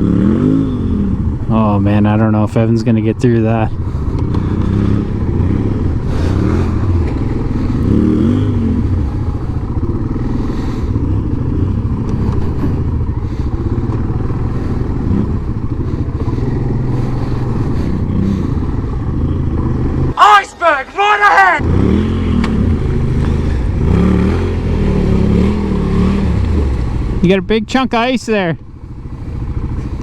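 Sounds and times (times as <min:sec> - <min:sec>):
atv engine revving: 0:00.0 - 0:30.0.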